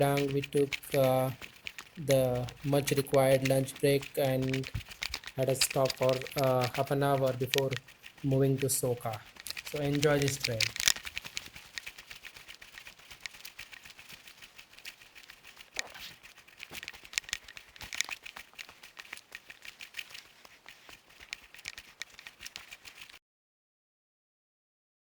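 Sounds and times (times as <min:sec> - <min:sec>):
faint crinkling and crackling clicks: 0:00.0 - 0:23.2.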